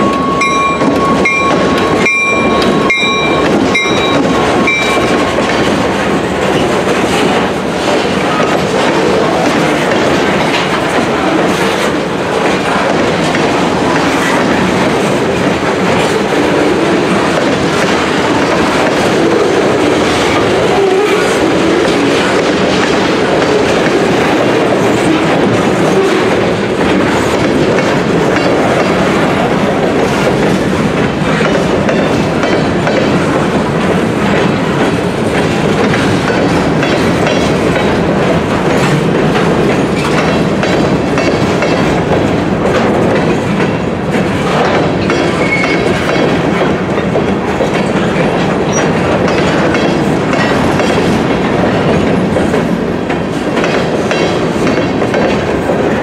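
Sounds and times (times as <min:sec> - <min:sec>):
freight train rumbling past: 0:00.0 - 0:56.0
wheels clicking over rail joints: 0:00.0 - 0:56.0.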